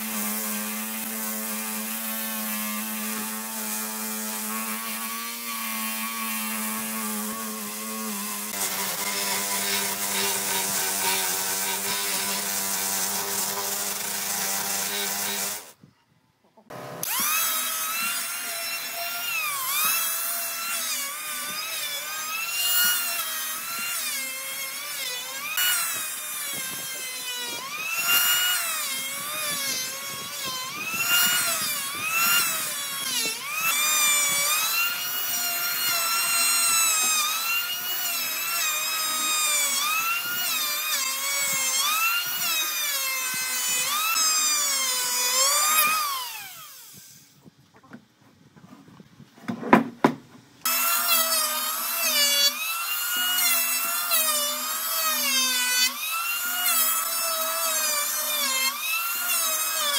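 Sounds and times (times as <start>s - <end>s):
electric planer cutting wood: 0.0s - 15.8s, 16.7s - 47.4s, 50.6s - 59.9s.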